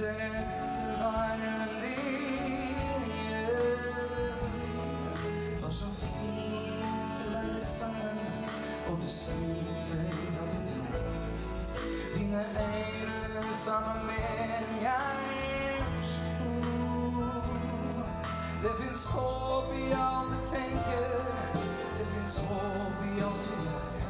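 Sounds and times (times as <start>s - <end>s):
big band playing: 0.0s - 24.0s.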